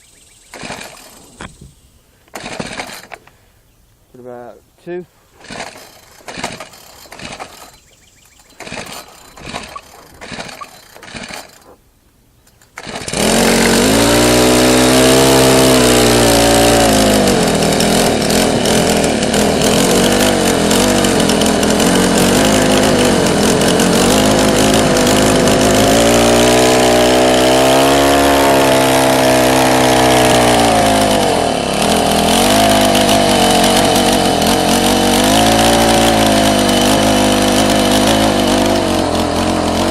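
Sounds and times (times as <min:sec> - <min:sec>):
string trimmer engine running: 0:00.2 - 0:01.6, 0:02.3 - 0:03.3, 0:05.4 - 0:11.8, 0:12.4 - 0:39.9
recoil starter pulls: 0:00.4 - 0:03.4, 0:05.4 - 0:11.8, 0:12.4 - 0:39.9.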